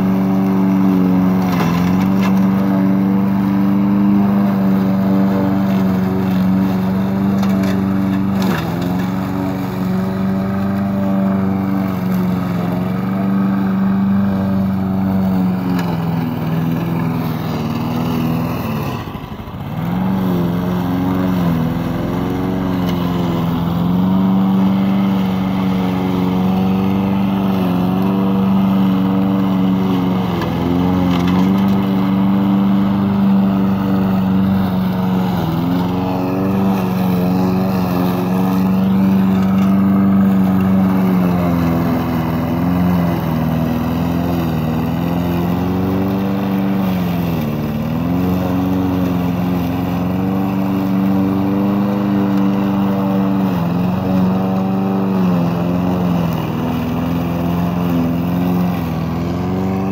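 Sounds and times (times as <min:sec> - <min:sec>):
lawn mower engine cutting grass: 0:00.0 - 0:59.9.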